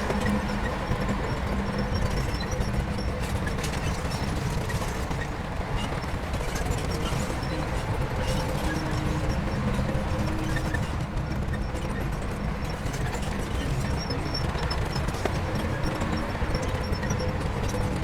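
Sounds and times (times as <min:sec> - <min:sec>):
heavy diesel engine running: 0:00.0 - 0:18.0
light clicks and clatter: 0:00.0 - 0:18.0.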